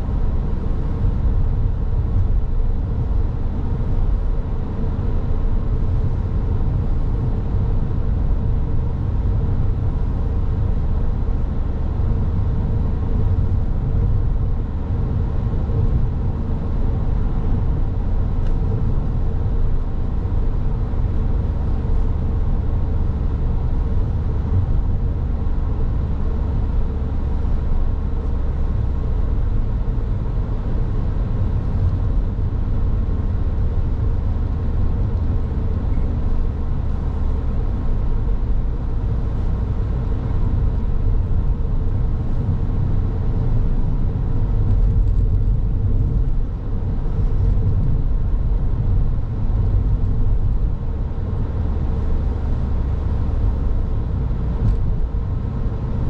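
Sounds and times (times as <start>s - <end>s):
car driving on road: 0.0s - 56.0s
road noise hiss: 0.0s - 56.0s.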